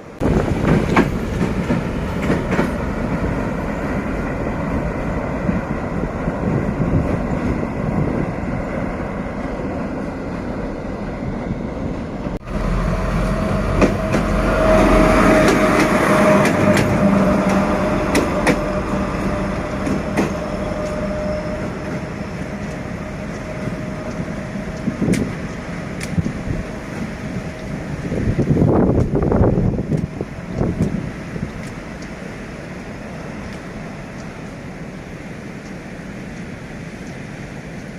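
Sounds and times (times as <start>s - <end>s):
locomotive engine drone: 0.0s - 37.9s
wheel and rail noise: 0.0s - 37.9s.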